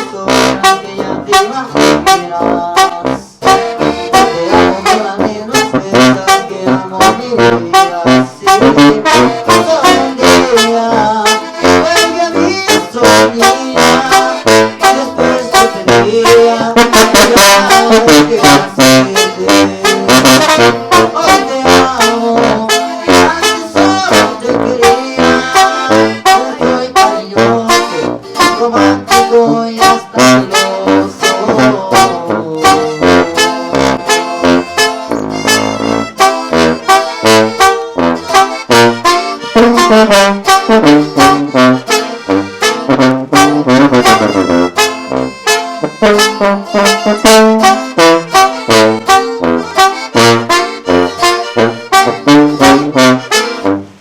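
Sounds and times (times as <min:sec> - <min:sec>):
saxophone lead: 0:00.0 - 0:54.0
tuba and bass: 0:00.0 - 0:54.0.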